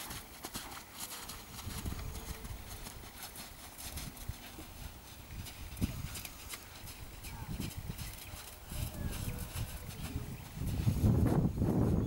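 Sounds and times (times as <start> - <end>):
horse hoofbeats on sand: 0.0 - 12.0.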